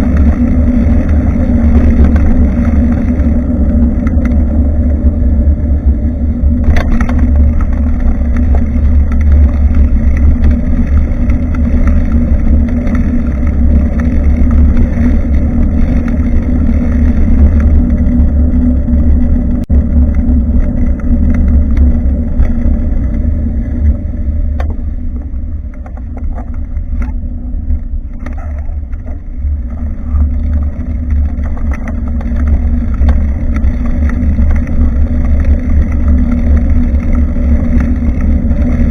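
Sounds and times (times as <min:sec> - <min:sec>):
small clicks and rattles: 0:00.0 - 0:05.2, 0:06.4 - 0:38.9
wind buffeting microphone: 0:00.0 - 0:38.9.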